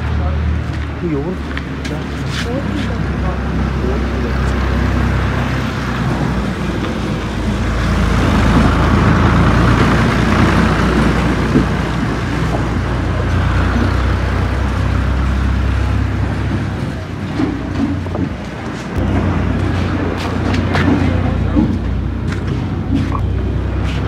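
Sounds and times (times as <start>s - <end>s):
road noise hiss: 0.0s - 24.0s
vehicle engine drone: 0.0s - 24.0s.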